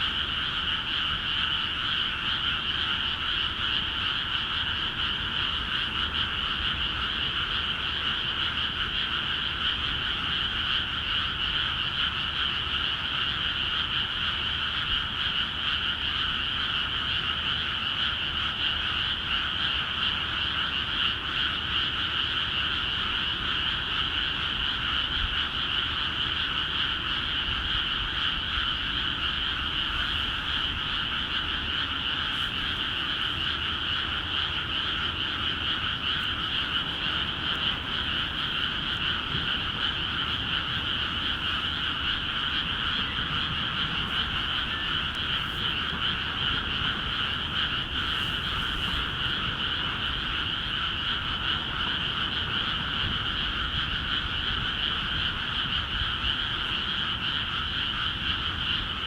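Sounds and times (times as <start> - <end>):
frogs croaking chorus: 0.0 - 59.0.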